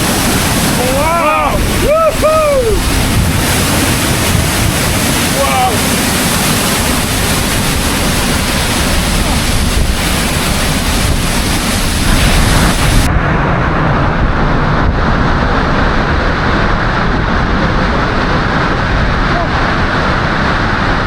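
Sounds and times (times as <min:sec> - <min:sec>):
waterfall roaring: 0:00.0 - 0:21.0
wind buffeting microphone: 0:00.0 - 0:21.0.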